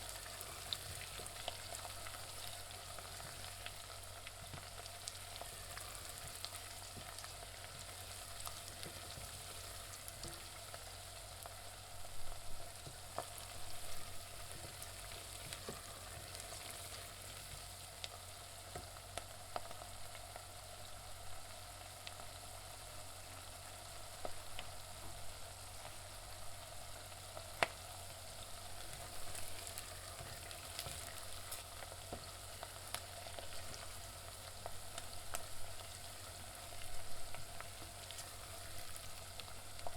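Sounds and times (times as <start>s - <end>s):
oil crackling and popping: 0.0s - 20.5s, 24.2s - 39.9s
onions sizzling in oil: 0.0s - 39.9s.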